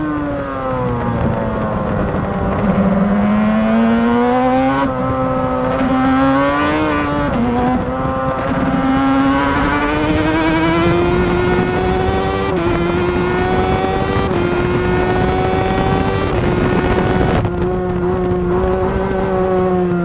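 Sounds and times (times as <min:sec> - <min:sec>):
racing motorcycle engine: 0:00.0 - 0:20.0
wind noise: 0:00.0 - 0:20.0.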